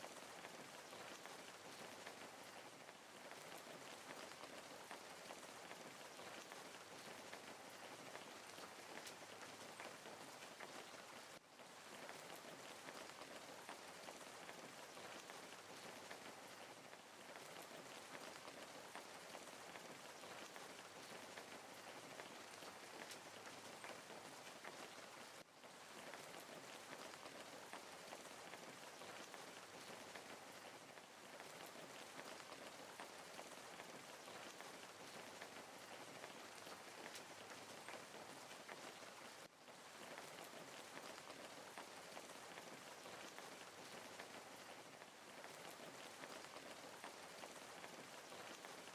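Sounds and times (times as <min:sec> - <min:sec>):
crackling wood fire: 0:00.0 - 0:48.9.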